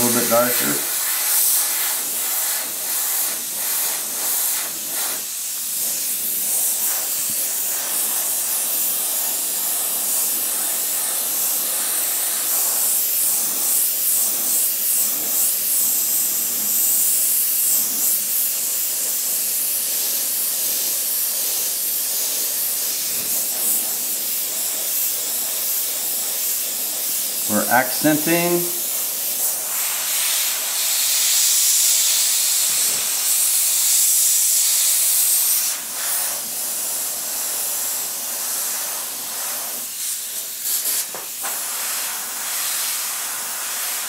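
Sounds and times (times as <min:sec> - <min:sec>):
airbrush hissing: 0:00.0 - 0:44.0.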